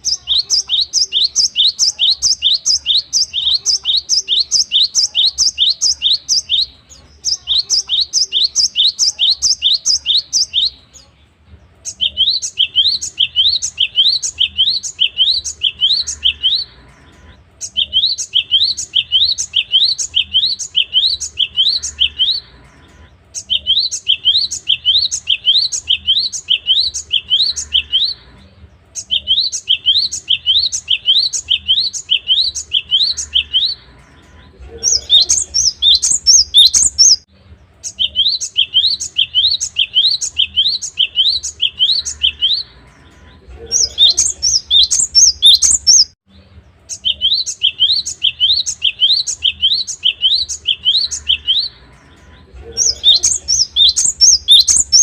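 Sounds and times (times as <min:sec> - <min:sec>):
bird singing whistled notes: 0:00.0 - 0:10.8, 0:11.8 - 0:16.8, 0:17.6 - 0:22.6, 0:23.4 - 0:28.3, 0:29.0 - 0:33.8, 0:34.8 - 0:42.8, 0:43.7 - 0:46.2, 0:46.9 - 0:51.8, 0:52.7 - 0:55.0.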